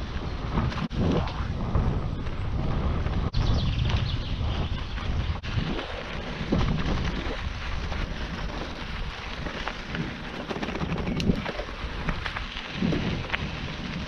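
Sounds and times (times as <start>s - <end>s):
bicycle tyres on gravel: 0.0s - 14.0s
wind rumble on microphone: 0.0s - 14.0s.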